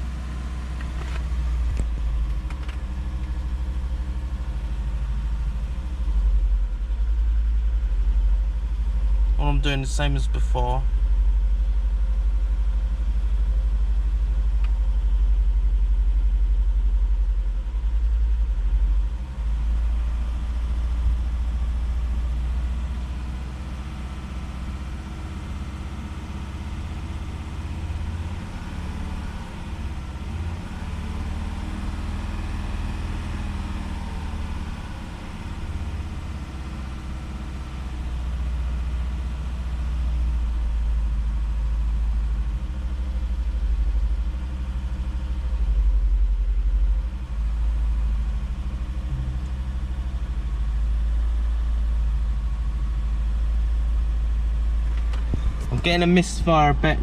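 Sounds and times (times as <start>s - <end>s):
car engine idling with misfire: 0.0s - 57.0s.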